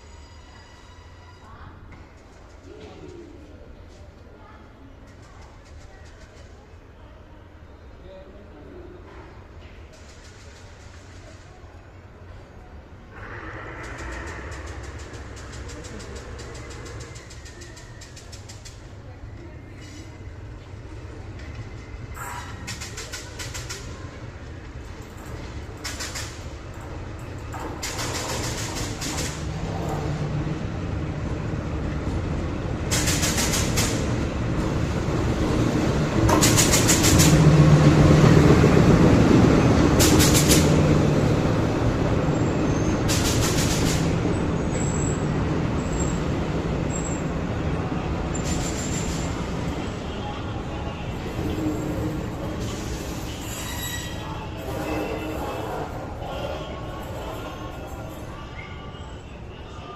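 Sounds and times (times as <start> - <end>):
train passing: 8.6 - 59.9.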